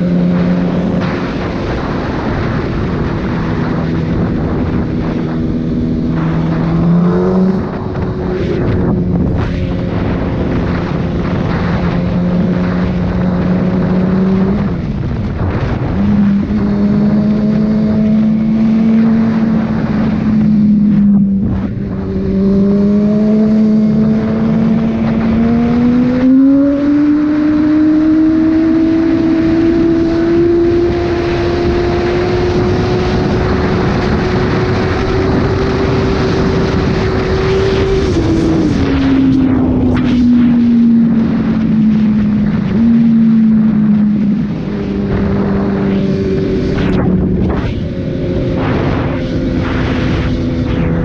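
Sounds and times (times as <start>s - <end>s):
motorcycle engine accelerating: 0.0s - 51.0s
wind rushing on microphone: 0.0s - 51.0s.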